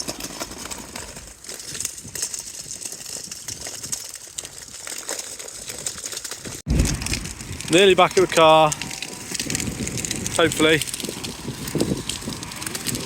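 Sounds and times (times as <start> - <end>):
footsteps crunching on path: 0.0 - 13.0.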